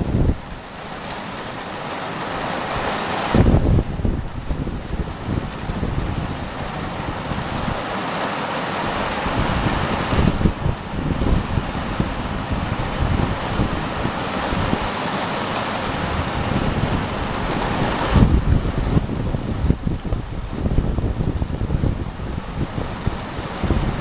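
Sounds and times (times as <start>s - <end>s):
heavy rain falling: 0.0s - 24.0s
wind gusts on microphone: 0.0s - 24.0s.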